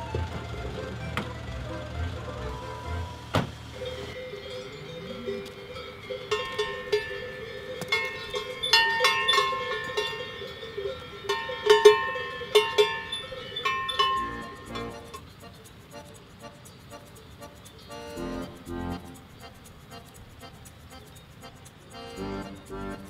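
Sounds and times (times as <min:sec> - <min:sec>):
cowbells clanking: 0:00.0 - 0:23.0.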